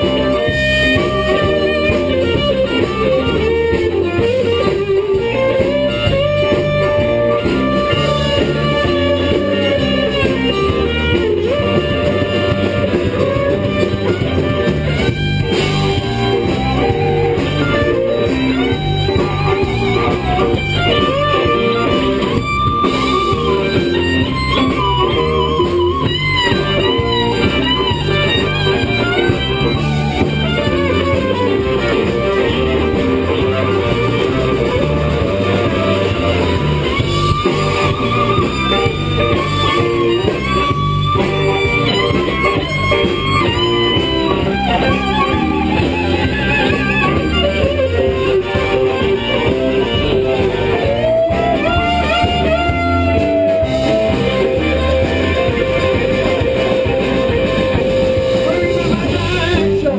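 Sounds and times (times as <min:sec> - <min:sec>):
bass guitar: 0:00.0 - 0:59.9
drums playing a steady beat: 0:00.0 - 0:59.9
electric guitar bending lead notes: 0:00.0 - 0:59.9.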